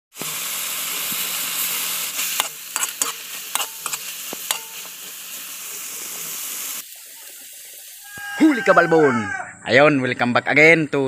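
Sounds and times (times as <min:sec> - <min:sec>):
food sizzling in a pan: 0:00.1 - 0:09.0.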